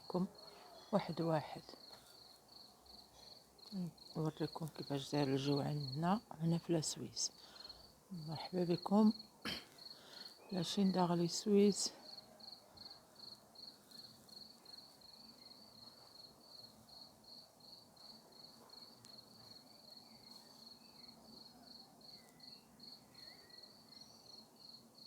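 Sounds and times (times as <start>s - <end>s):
cricket chirping: 0.0s - 25.0s.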